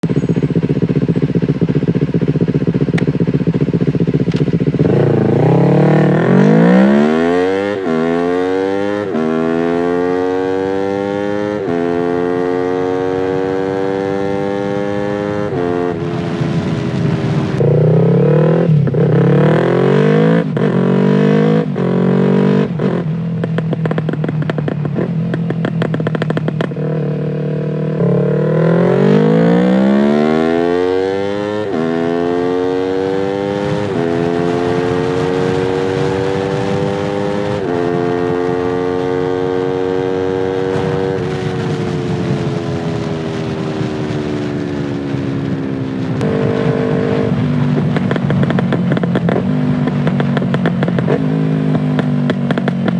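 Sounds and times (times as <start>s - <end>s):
motorcycle engine revving and accelerating: 0.0s - 52.9s.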